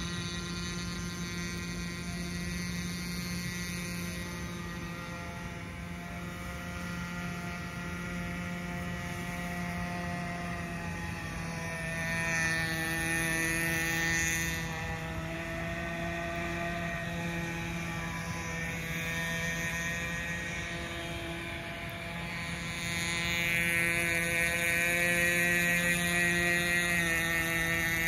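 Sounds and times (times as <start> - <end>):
model boat engine whining: 0.0 - 28.0.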